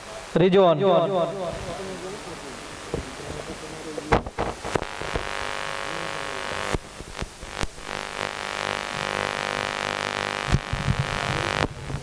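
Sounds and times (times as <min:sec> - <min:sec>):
steady drone: 0:00.0 - 0:12.0.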